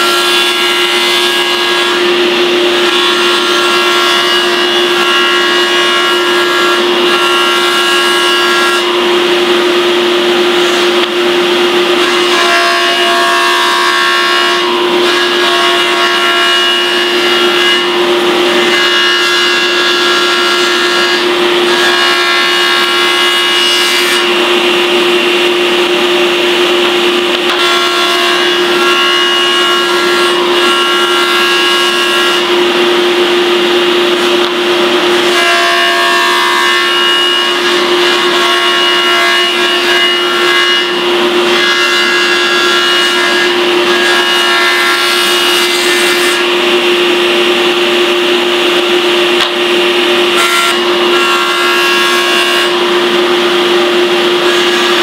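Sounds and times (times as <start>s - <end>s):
table saw cutting wood: 0.0s - 55.0s.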